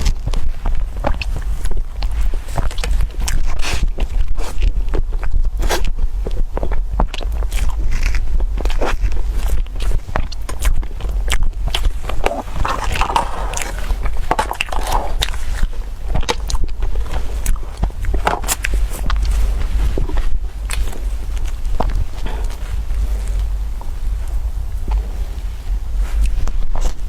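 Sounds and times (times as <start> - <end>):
chewing crunchy food: 0.0 - 27.0.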